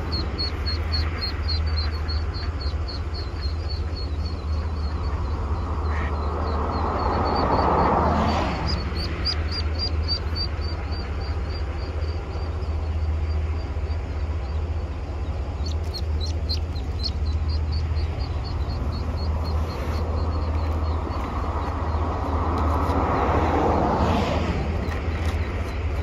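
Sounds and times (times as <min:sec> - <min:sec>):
ducklings peeping: 0:00.0 - 0:23.1
steady low hum: 0:00.0 - 0:26.0.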